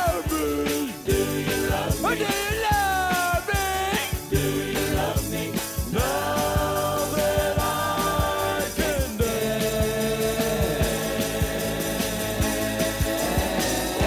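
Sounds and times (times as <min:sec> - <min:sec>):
rock and roll song: 0:00.0 - 0:14.0.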